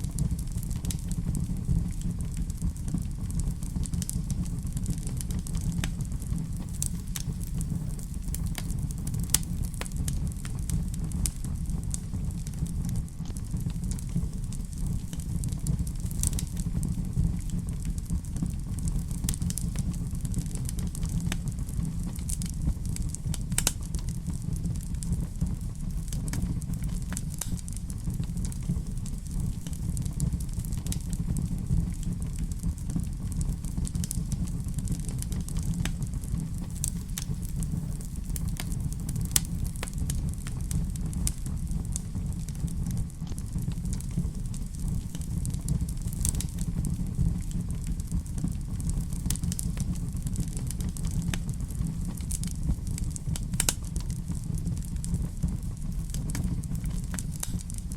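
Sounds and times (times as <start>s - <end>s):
fireplace fire crackling and popping: 0.0s - 57.9s.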